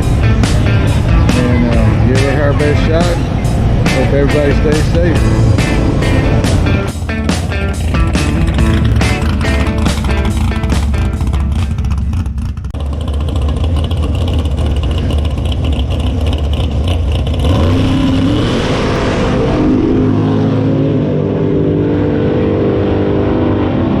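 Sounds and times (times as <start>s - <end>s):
drag race car engine accelerating: 0.0s - 24.0s.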